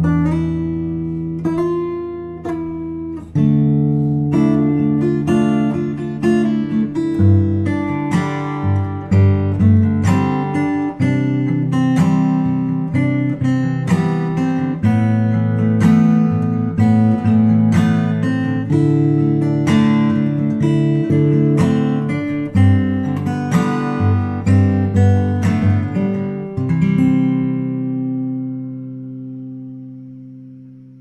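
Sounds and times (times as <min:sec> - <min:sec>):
acoustic guitar chords: 0:00.0 - 0:31.0.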